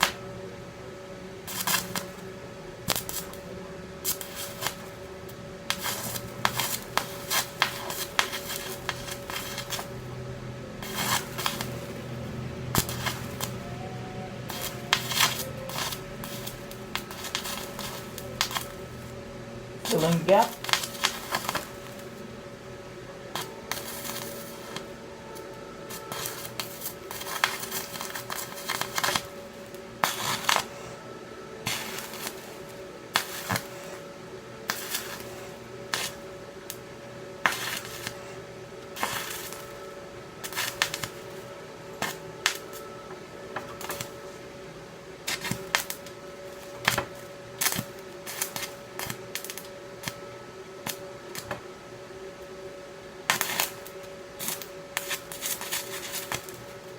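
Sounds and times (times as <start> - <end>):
welding arc crackling and popping: 0.0 - 0.3, 1.4 - 30.9, 31.6 - 50.2, 50.8 - 51.6, 53.2 - 56.9
steady hum: 0.0 - 56.9.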